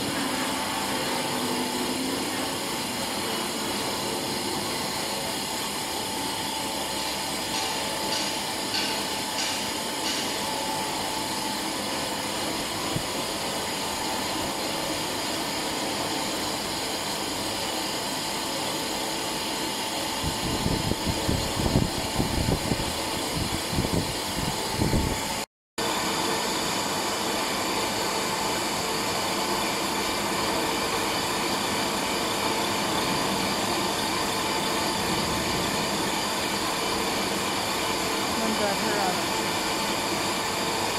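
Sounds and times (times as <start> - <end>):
machine hum with high whine: 0.0 - 40.9.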